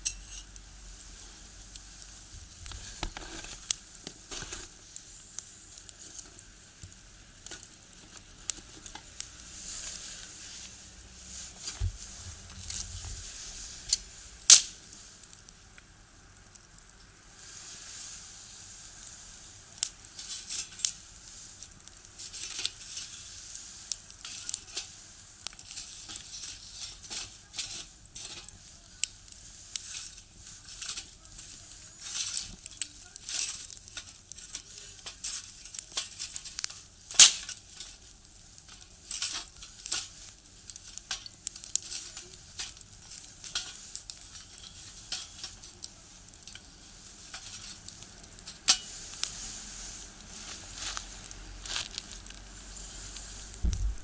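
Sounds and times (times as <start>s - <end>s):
faint hiss: 0.0s - 54.0s
firewood crackling with pops: 0.0s - 54.0s.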